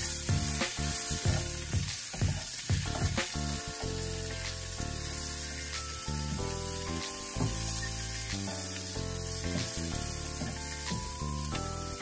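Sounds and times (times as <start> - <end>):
background music: 0.0 - 1.9, 2.7 - 12.0
shrimp sizzling in a frying pan: 0.0 - 12.0.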